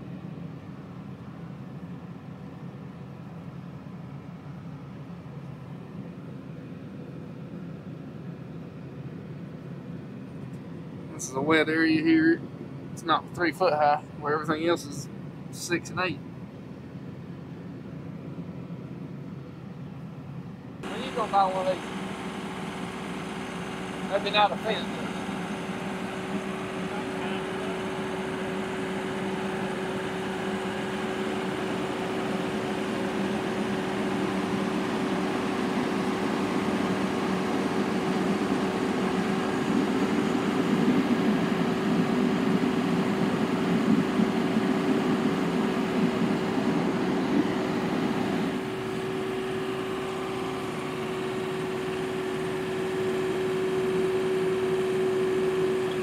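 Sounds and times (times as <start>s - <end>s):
machine drone in cab: 0.0s - 56.0s.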